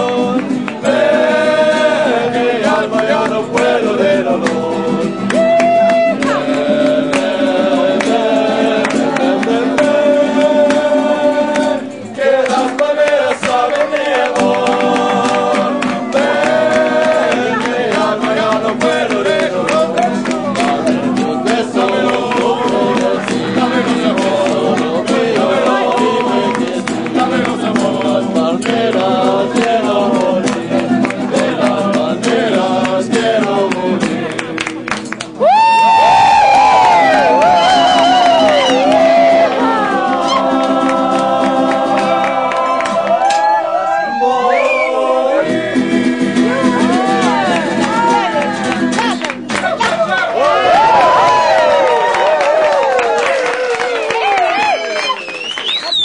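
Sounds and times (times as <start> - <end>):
men singing together: 0.0 - 35.0, 36.4 - 48.3
strummed acoustic guitar: 0.0 - 35.4, 36.1 - 44.0, 45.3 - 51.6.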